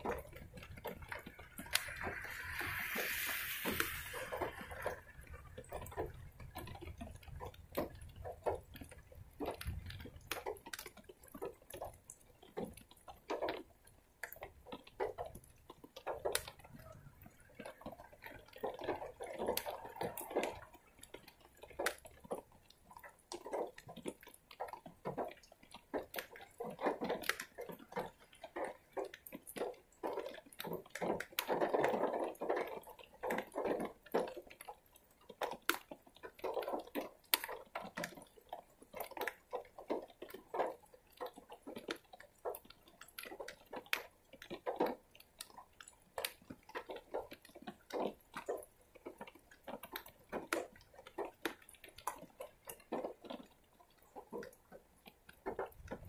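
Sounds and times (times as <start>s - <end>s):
rainwater dripping: 0.0s - 56.0s.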